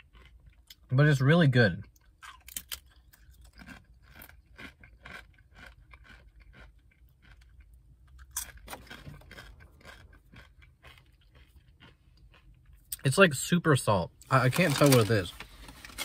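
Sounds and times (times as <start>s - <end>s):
person crunching chips: 0.0s - 0.8s, 2.0s - 13.0s, 14.2s - 16.0s.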